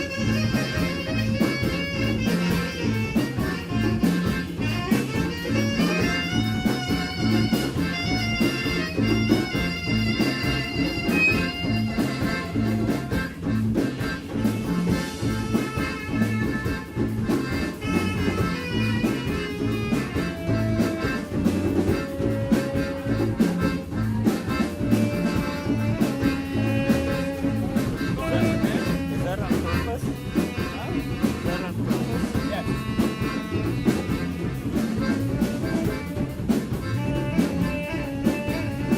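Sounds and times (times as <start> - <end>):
live band playing instrumental: 0.0 - 38.9.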